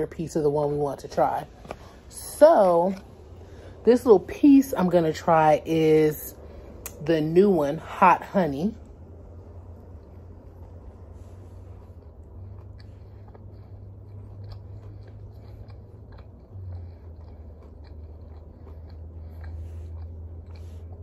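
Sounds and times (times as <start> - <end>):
low steady hum: 0.0 - 21.0
biting and chewing food: 2.9 - 21.0.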